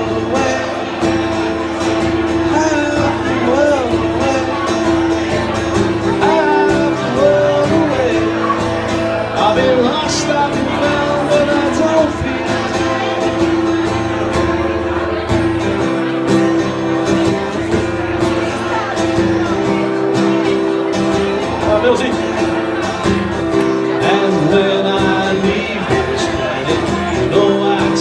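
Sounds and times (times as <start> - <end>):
man singing: 0.0 - 15.0, 17.4 - 22.8, 23.4 - 28.0
acoustic guitar: 0.0 - 28.0.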